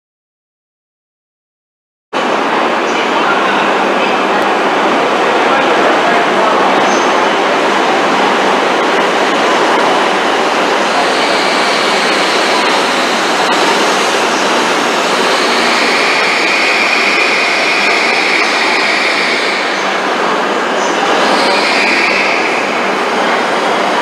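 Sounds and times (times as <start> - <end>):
high train whine: 2.2 - 24.0
train running rush: 2.2 - 24.0.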